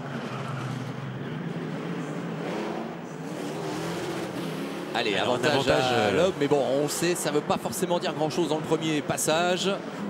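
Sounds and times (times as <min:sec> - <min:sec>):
race car engines running hard: 0:00.0 - 0:10.0.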